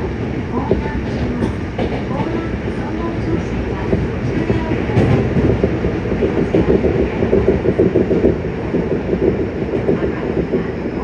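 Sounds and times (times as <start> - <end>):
train clickety-clack: 0.0 - 11.0
train wheels rumbling on rail: 0.0 - 11.0.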